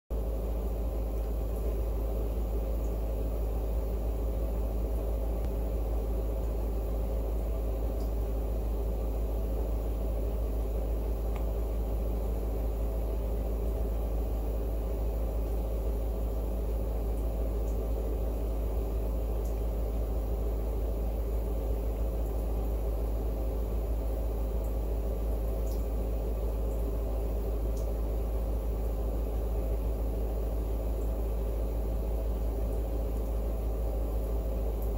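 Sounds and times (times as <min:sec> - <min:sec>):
low background rumble and hum: 0:00.1 - 0:34.9.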